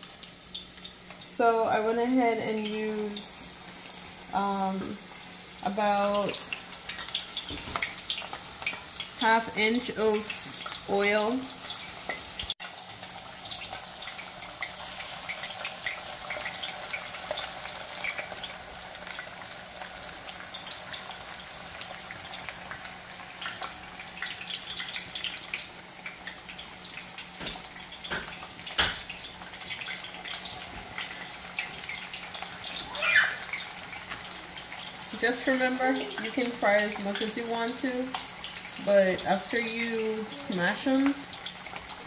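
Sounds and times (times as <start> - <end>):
plantain frying in oil: 0.0 - 42.0.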